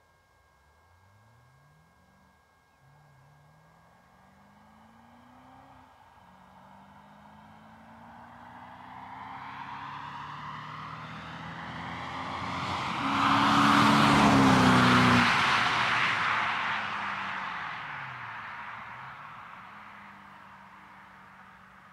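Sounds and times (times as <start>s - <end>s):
car exhaust note: 0.0s - 21.9s.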